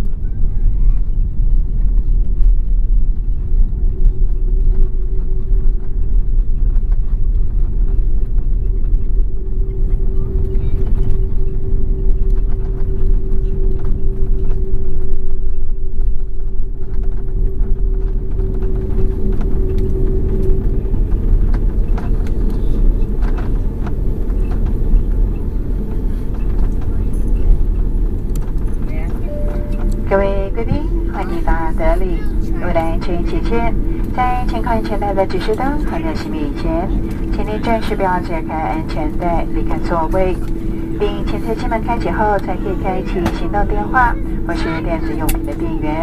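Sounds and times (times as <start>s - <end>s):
airliner cabin rumble: 0.0s - 46.0s
steady hum: 0.0s - 46.0s.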